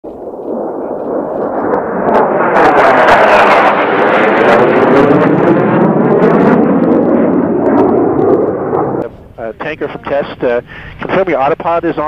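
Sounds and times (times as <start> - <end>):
jet engine flying past: 0.1 - 12.0.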